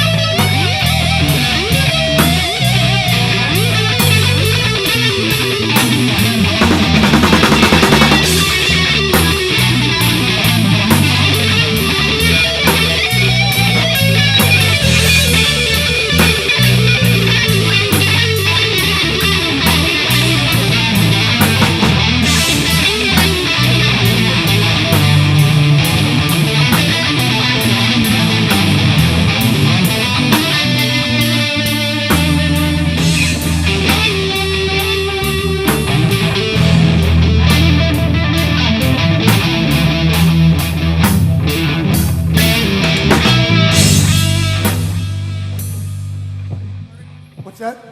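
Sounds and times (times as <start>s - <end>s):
drum kit beat: 0.0s - 47.8s
bass guitar: 0.0s - 47.9s
electric guitar: 0.0s - 47.9s.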